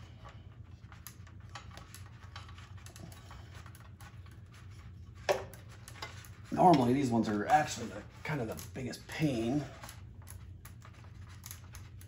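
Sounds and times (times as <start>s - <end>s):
wire connectors clicking and scraping: 0.0s - 12.0s.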